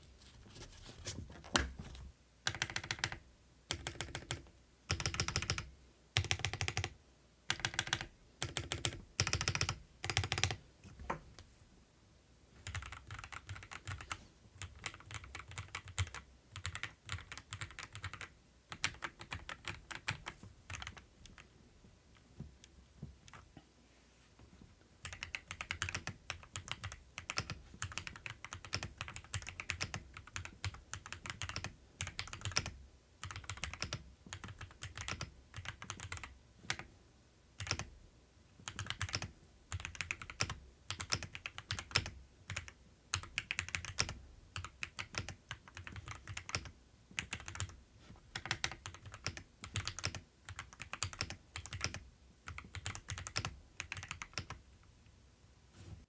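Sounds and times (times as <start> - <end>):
mechanical keyboard typing: 2.4 - 10.6, 12.6 - 21.5, 25.0 - 36.9, 37.6 - 37.9, 38.6 - 54.6.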